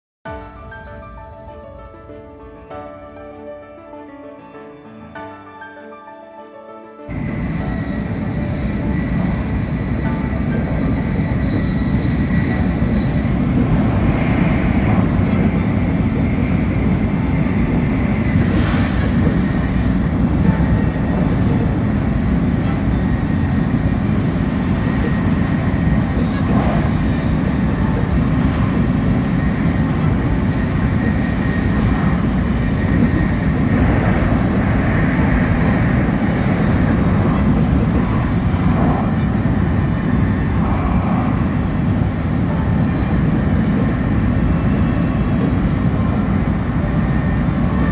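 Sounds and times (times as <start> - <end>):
train running at speed: 7.1 - 47.9.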